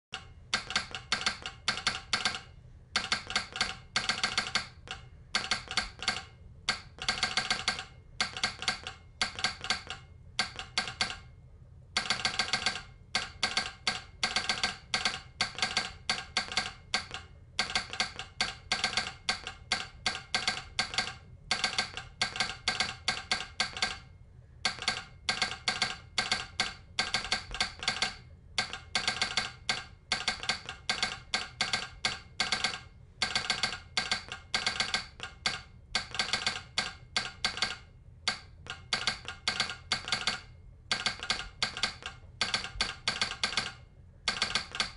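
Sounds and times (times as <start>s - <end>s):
telegraph sounder clicking: 0.1s - 11.3s, 12.0s - 44.9s.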